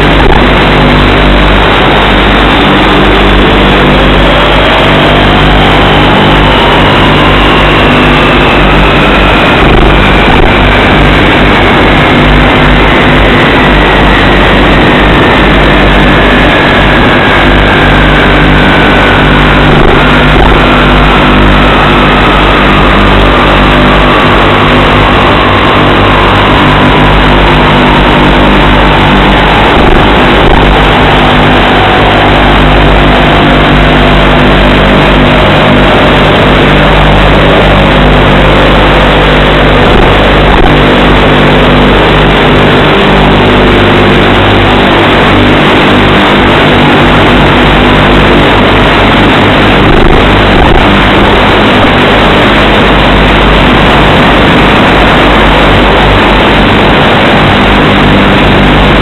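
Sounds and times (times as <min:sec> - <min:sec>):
faint sliding whine: 0:00.0 - 0:59.0
model airplane motor droning: 0:00.0 - 0:59.0
wind rush on microphone: 0:00.0 - 0:59.0.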